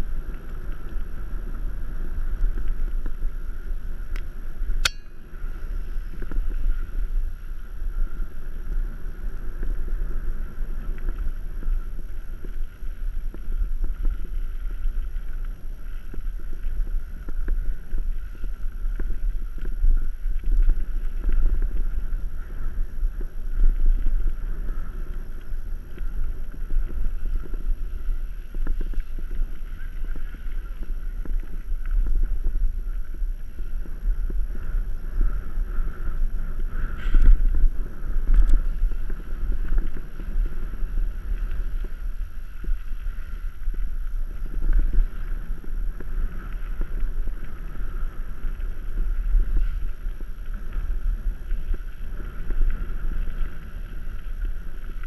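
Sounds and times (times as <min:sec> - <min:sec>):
bike tyres and frame rattling: 0:00.0 - 0:55.0
wind buffeting microphone: 0:00.0 - 0:55.0.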